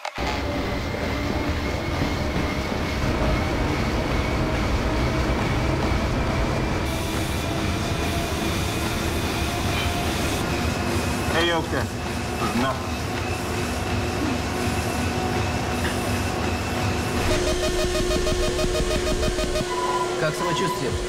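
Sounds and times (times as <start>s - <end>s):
rumbling mechanical noise: 0.1s - 12.6s, 16.3s - 21.0s.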